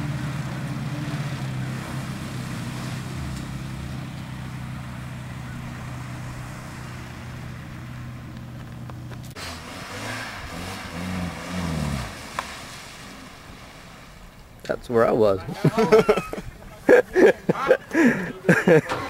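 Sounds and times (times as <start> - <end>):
truck engine revving in mud: 0.0 - 14.3, 17.2 - 19.0.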